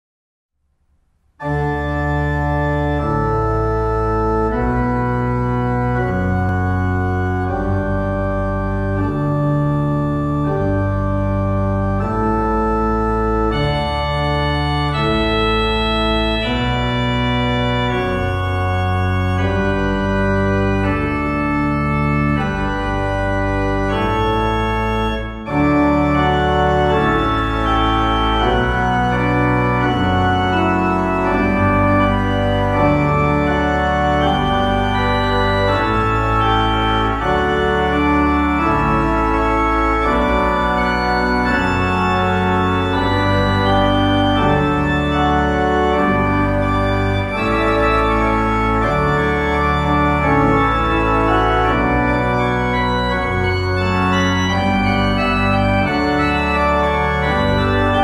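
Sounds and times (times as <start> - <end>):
organ chords: 1.3 - 58.0.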